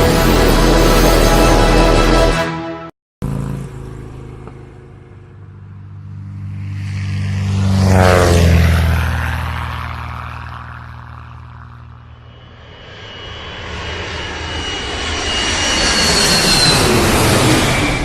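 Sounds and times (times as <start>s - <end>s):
airplane engine with high whine: 0.0s - 2.4s, 3.2s - 18.0s
passing vehicle rumble: 3.2s - 18.0s.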